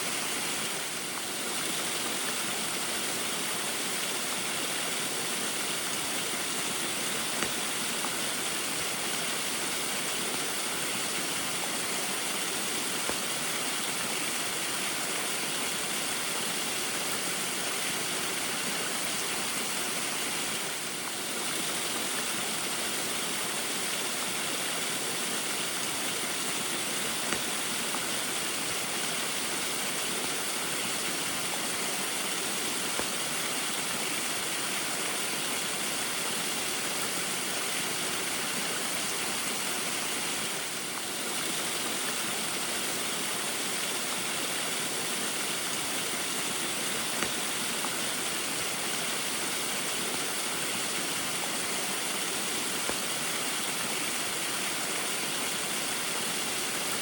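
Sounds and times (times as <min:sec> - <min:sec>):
rain: 0:00.0 - 0:57.0
small waterfall rushing: 0:00.0 - 0:57.0.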